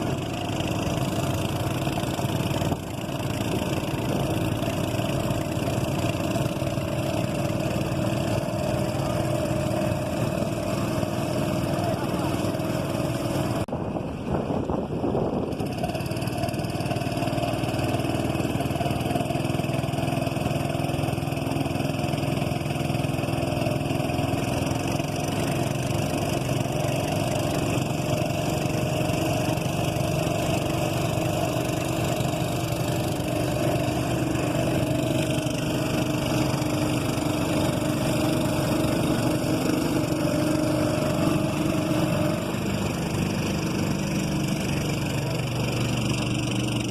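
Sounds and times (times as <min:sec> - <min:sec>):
boat engine droning: 0:00.0 - 0:46.9.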